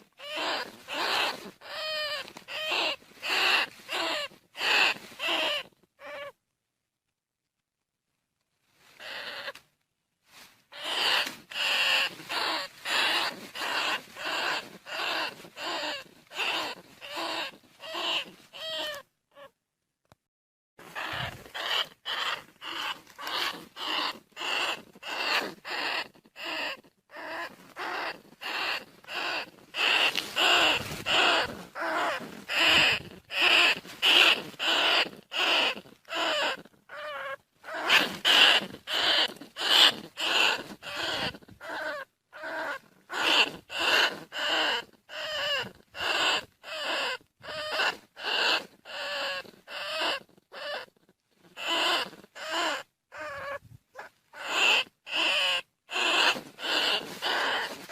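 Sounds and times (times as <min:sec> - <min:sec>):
rat squeaky cries: 0:00.0 - 0:06.4, 0:09.0 - 0:09.6, 0:10.7 - 0:19.5, 0:20.9 - 0:57.9.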